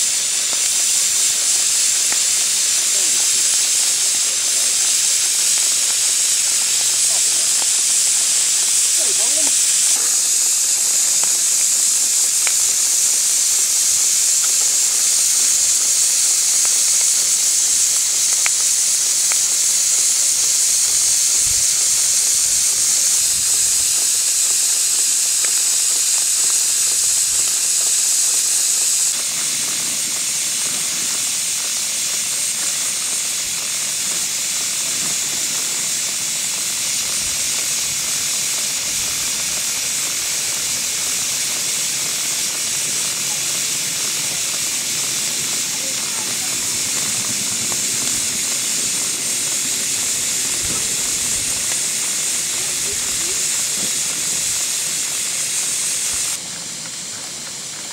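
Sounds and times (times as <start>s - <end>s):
steam hissing: 0.0s - 57.9s.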